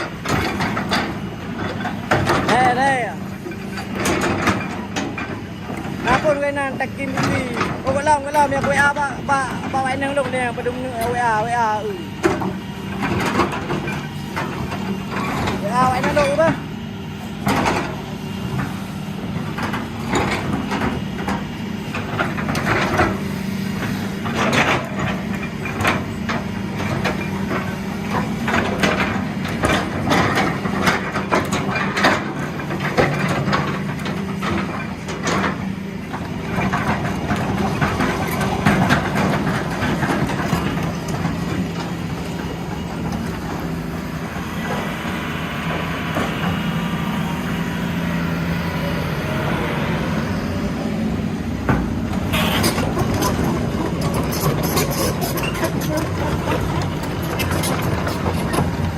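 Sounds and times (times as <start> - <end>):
sharp knocks and creaks: 0.0 - 11.4, 12.2 - 16.6, 17.4 - 18.8, 19.4 - 23.2, 23.8 - 58.9
heavy diesel engines running: 0.0 - 58.9.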